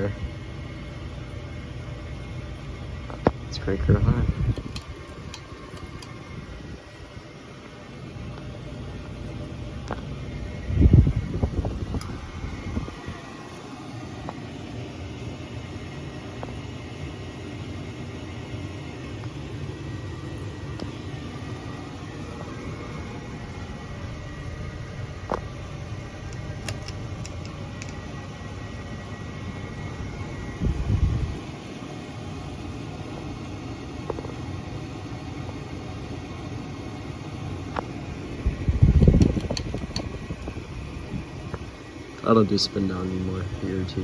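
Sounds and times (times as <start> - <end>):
ceiling fan running: 0.0 - 44.0.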